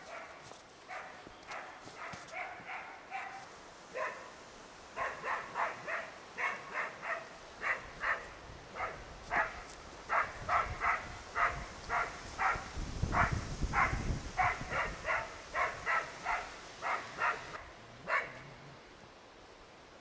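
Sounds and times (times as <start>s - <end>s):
dog barking: 0.0s - 4.3s, 5.0s - 18.6s.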